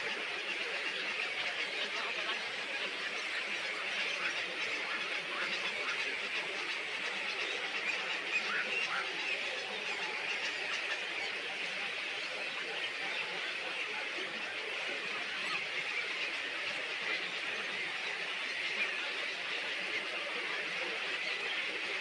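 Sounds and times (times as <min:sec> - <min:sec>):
chorus of small birds chirping: 0:00.0 - 0:22.0.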